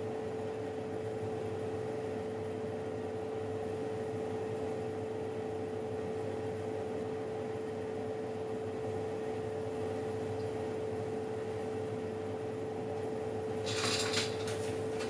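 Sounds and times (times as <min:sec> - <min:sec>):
oven hum with tone: 0:00.0 - 0:15.0.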